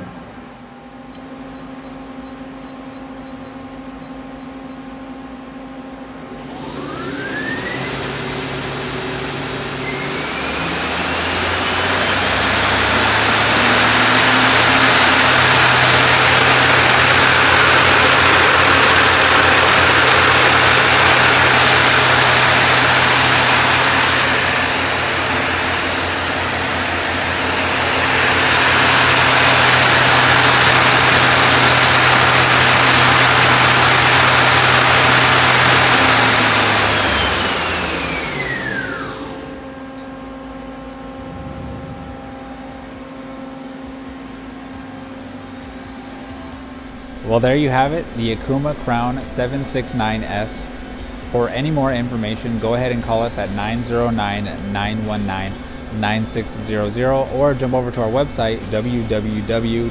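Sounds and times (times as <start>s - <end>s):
lathe spindle whirring: 6.2s - 59.9s.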